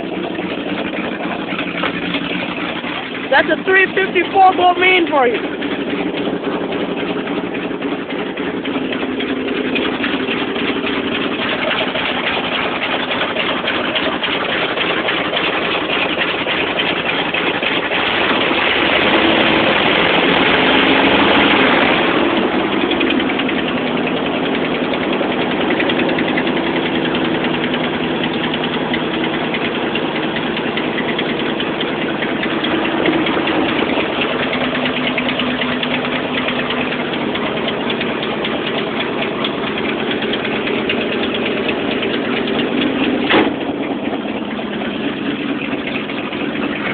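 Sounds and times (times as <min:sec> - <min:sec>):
pickup engine idling: 0:00.0 - 0:46.9.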